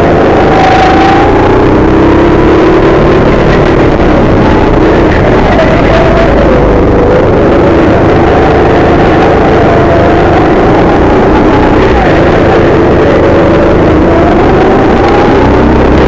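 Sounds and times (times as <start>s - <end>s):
go-kart engine running hard: 0.0s - 16.0s.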